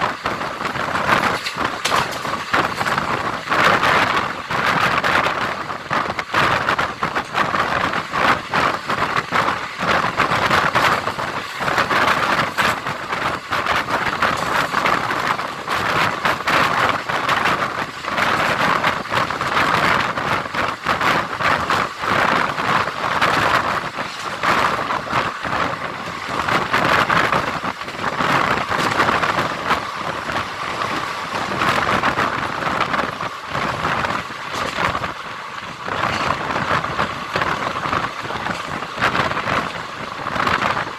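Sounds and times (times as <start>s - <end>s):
rush of wind: 0.0s - 40.9s
train wheels rattling over rails: 0.0s - 40.9s.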